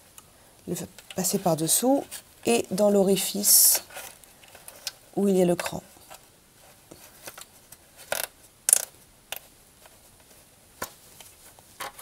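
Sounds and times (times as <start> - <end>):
wires rustling: 0.0 - 12.0.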